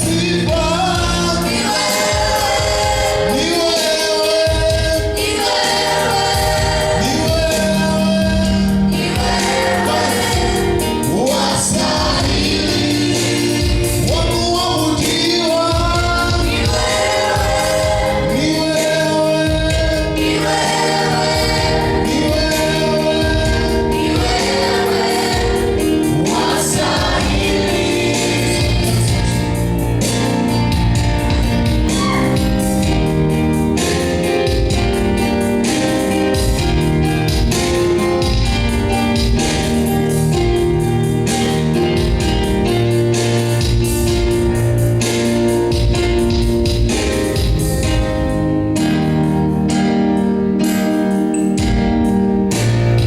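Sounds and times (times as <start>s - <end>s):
gospel choir singing: 0.0s - 46.4s.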